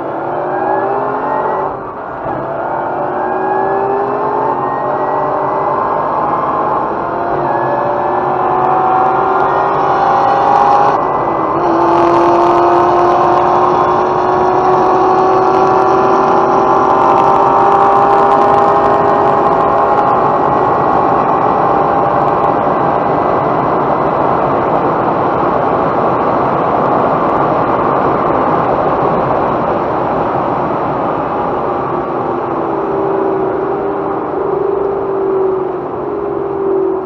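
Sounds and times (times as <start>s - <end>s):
car engine: 0.0s - 37.0s
wind and tyre roar: 0.0s - 37.0s.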